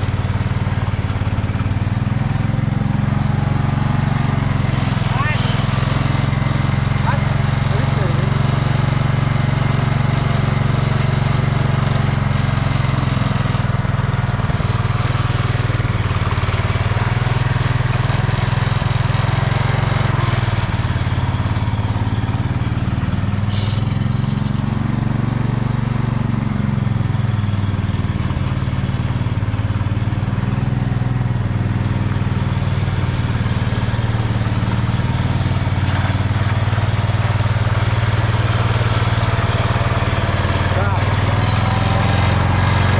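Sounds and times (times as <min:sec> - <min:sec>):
garden tractor engine running: 0:00.0 - 0:42.9.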